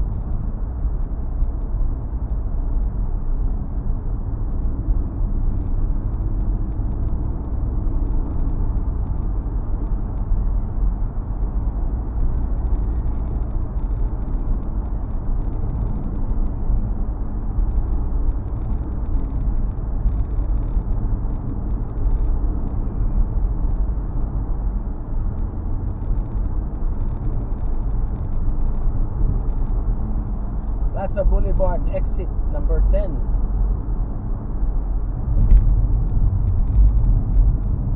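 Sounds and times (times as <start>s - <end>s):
car road and engine rumble: 0.0s - 37.9s.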